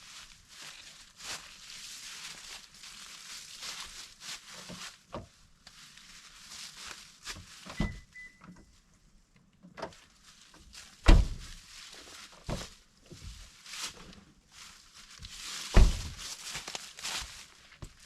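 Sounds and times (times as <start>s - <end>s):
rustling: 0.0s - 8.1s, 9.9s - 18.0s.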